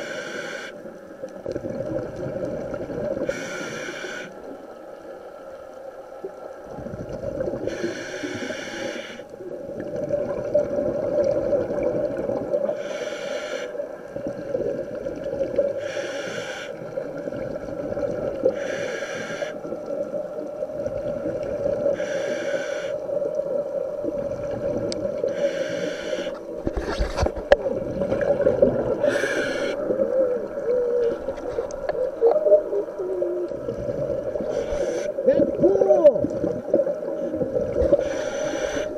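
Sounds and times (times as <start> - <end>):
exhaled bubbles rushing underwater: 0.8 - 12.9, 13.6 - 16.0, 16.8 - 38.9.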